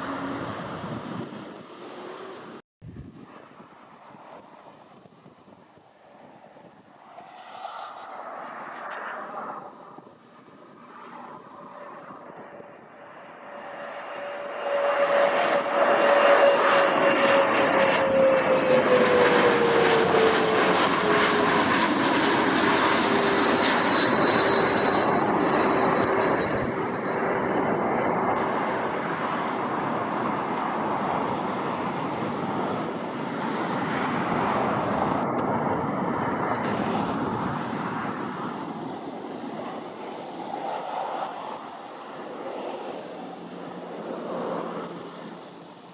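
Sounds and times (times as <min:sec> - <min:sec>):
aircraft passing close by: 0:00.0 - 0:45.9.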